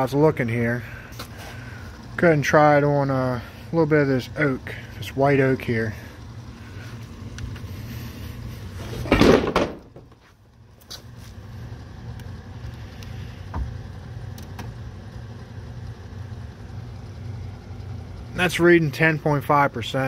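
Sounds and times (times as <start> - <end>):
dehumidifier humming: 0.0 - 20.0.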